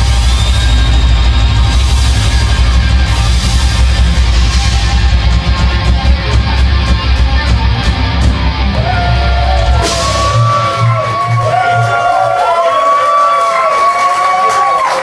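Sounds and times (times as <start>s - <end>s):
heavy metal band playing: 0.0s - 13.3s.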